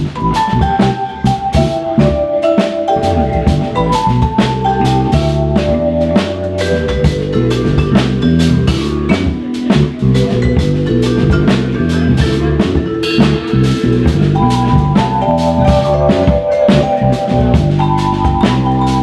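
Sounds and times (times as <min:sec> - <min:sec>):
drum kit groove: 0:00.0 - 0:19.0
vibraphone: 0:00.0 - 0:19.0
walking bass line: 0:00.0 - 0:19.0.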